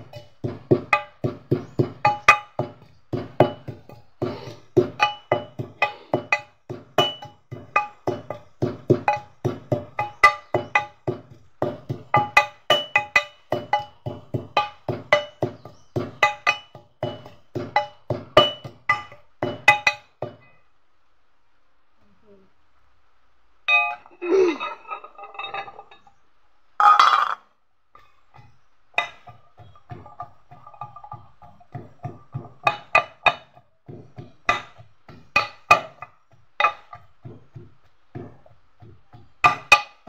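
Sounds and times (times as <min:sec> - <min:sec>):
pestle pounding in metal mortar: 0:00.0 - 0:20.6, 0:26.8 - 0:27.4, 0:28.0 - 0:40.0.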